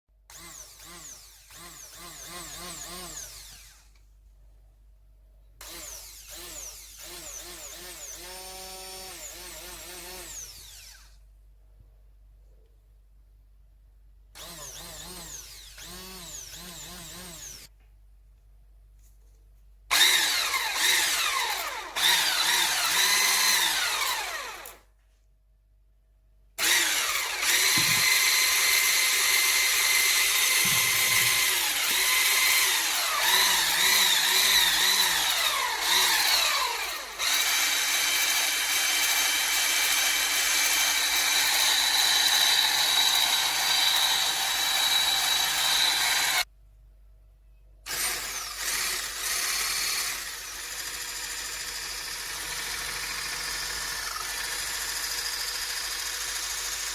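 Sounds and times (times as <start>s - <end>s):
hand blender motor whining: 0.3s - 3.8s, 5.6s - 11.1s, 14.4s - 17.7s, 19.9s - 24.8s, 26.6s - 46.5s, 47.9s - 56.9s.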